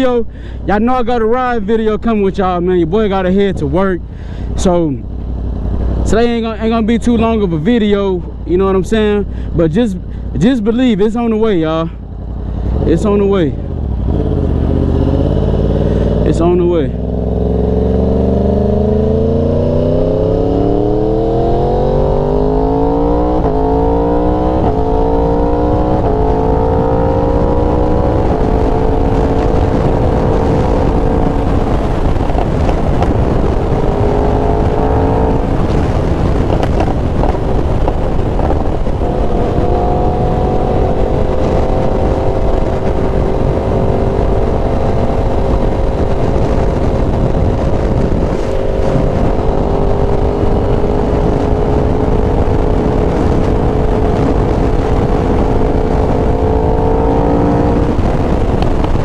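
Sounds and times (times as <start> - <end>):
wind rush: 0.0 - 59.0
motorcycle engine accelerating: 2.5 - 59.0.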